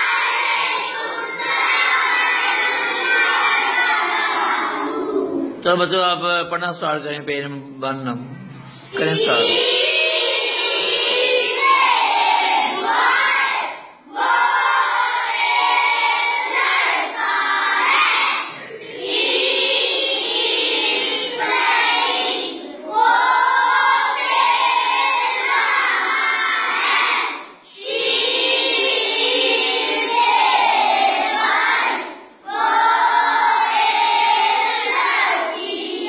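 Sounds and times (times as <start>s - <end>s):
children chanting in unison: 0.0s - 5.6s, 9.2s - 36.0s.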